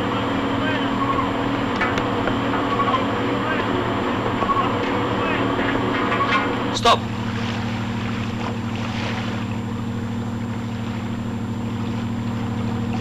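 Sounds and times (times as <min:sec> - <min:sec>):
boat engine throbbing: 0:00.0 - 0:13.0.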